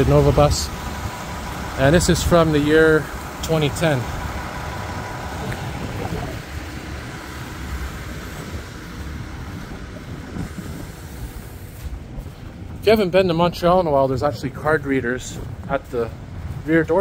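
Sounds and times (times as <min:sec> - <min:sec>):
heavy vehicle rumbling: 0:00.0 - 0:17.0.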